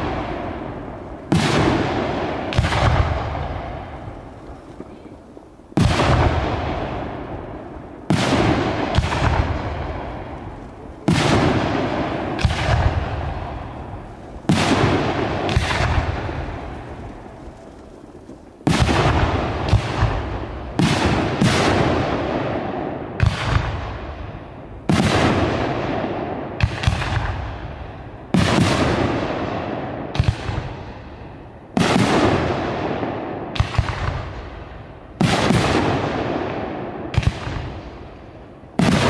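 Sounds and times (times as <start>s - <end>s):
fireworks bangs echoing: 0.0s - 39.0s
smaller fireworks bangs: 0.0s - 39.0s.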